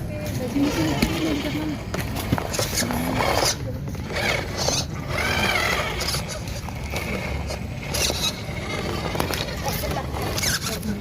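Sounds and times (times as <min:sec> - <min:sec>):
small electric motor and gears: 0:00.4 - 0:11.0.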